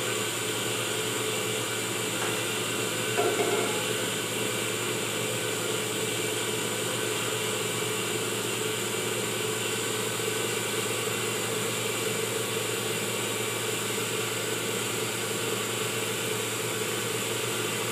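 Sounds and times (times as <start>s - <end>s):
cream separator whirring: 0.0s - 17.9s.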